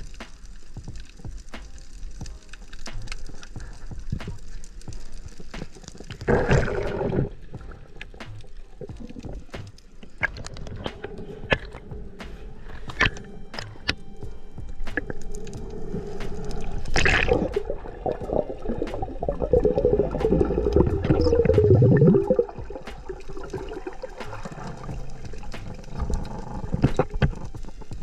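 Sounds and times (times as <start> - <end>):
water bubbling and gurgling: 0.0 - 28.0.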